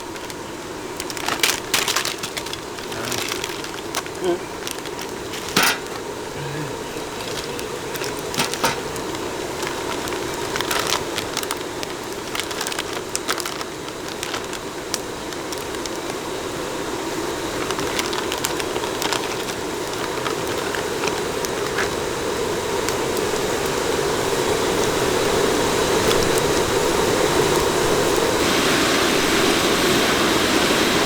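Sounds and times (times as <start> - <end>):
sharp crackles and clicks: 0.0 - 6.2, 6.9 - 28.4.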